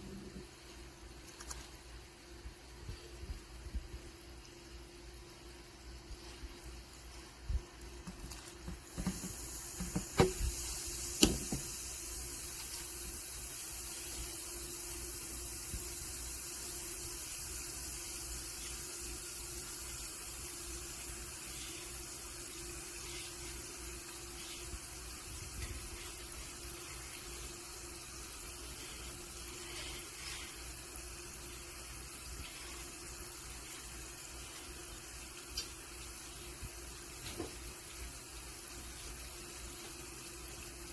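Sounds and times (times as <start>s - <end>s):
solution fizzing: 4.2s - 40.9s.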